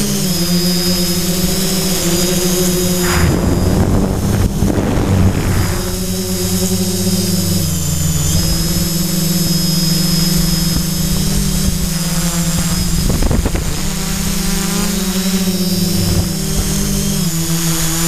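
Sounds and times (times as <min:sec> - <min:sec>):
quadcopter motors buzzing: 0:00.0 - 0:18.0.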